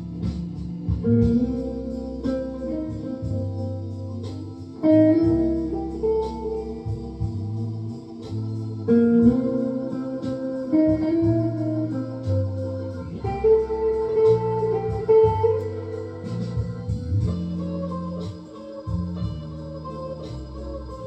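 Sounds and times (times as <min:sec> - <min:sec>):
electric guitar playing slow notes: 0:00.0 - 0:21.0.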